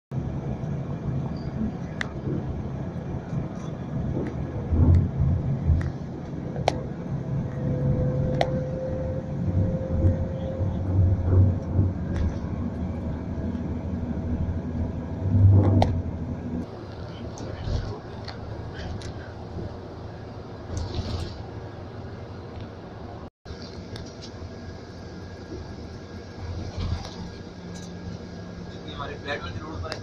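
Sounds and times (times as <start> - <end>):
vehicle road rumble and hum: 0.1 - 30.0
steady whine: 0.2 - 30.0.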